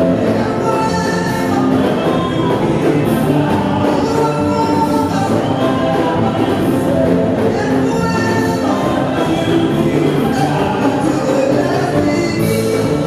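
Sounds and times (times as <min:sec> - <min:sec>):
band playing gospel music: 0:00.0 - 0:13.0
singers singing into microphones: 0:00.0 - 0:13.0.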